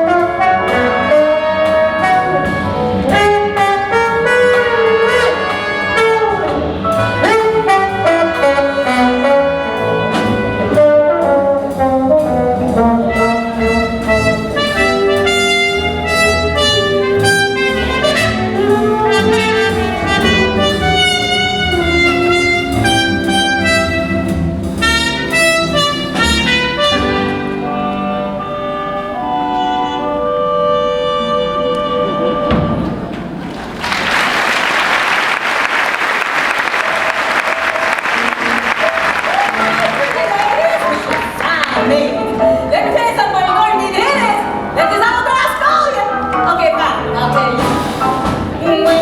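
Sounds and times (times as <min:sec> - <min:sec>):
big band jazz: 0:00.0 - 0:49.0.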